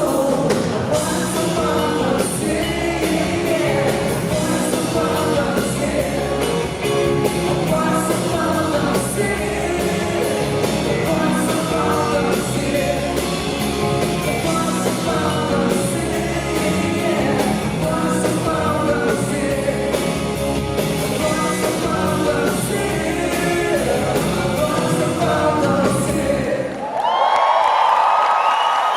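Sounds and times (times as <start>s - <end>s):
steady drum beat: 0.0s - 26.5s
live rock band playing: 0.0s - 26.6s.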